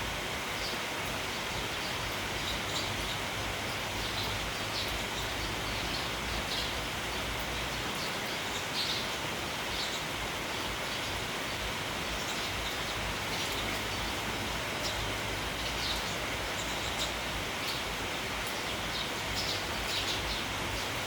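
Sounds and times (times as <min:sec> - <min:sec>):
rain: 0:00.0 - 0:21.0
wind: 0:00.0 - 0:21.0
sparrows chirping: 0:00.2 - 0:21.0.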